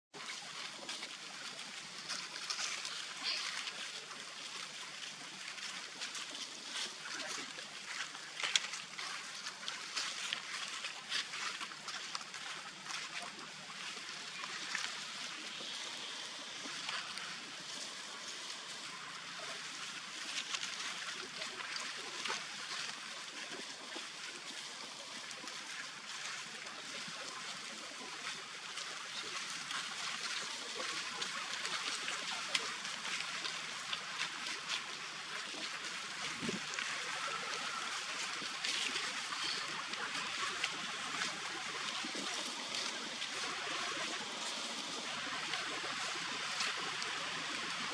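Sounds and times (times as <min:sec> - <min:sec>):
forest ambience hiss: 0:00.2 - 0:47.9.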